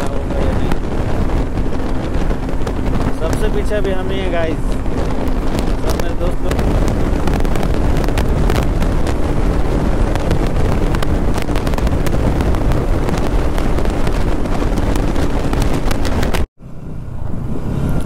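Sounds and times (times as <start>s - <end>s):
motorcycle engine running: 0.0s - 16.5s
wind rushing on microphone: 0.0s - 18.0s.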